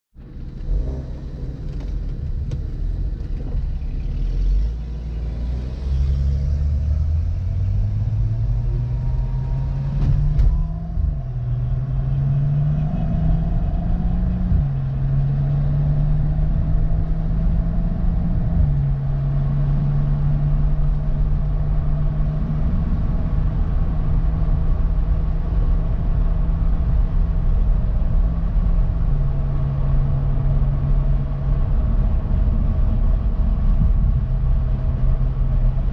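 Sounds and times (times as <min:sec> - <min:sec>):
car engine accelerating: 0:00.2 - 0:35.9.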